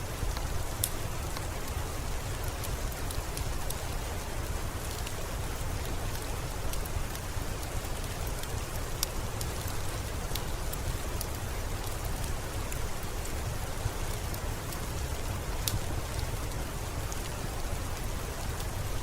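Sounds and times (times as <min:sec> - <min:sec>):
fireplace crackling: 0:00.0 - 0:19.0
steady rain: 0:00.0 - 0:19.0.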